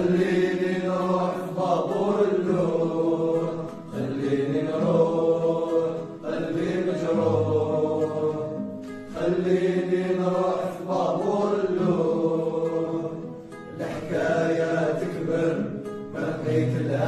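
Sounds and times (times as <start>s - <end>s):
backing music: 0.0s - 17.0s
person singing: 0.0s - 17.0s.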